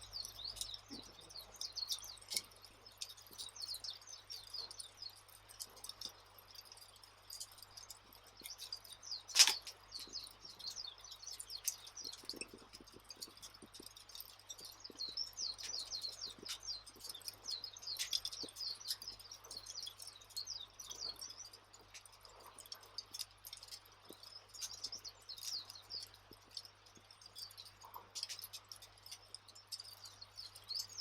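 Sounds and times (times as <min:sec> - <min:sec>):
fire crackling and popping: 0:00.0 - 0:31.0
small birds chirping: 0:00.0 - 0:31.0.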